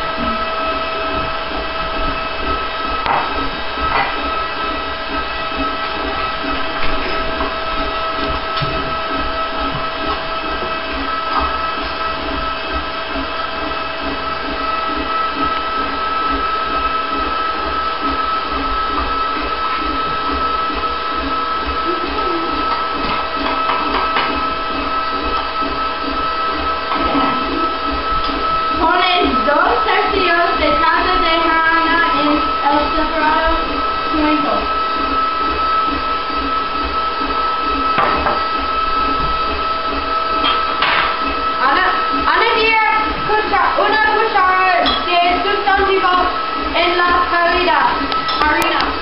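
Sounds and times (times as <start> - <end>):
electric stand mixer running: 0.0 - 49.0
mechanical hum with high whine: 0.0 - 49.0.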